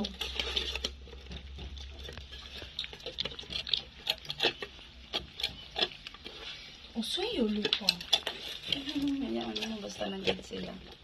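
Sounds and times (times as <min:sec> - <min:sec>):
kibble clicking in metal bowls: 0:00.0 - 0:06.2, 0:07.0 - 0:11.0
puppies crunching dry kibble: 0:00.0 - 0:11.0.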